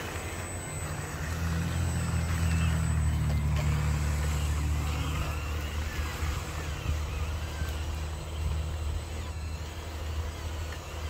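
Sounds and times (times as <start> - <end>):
toy truck engine drone: 0.0 - 11.0.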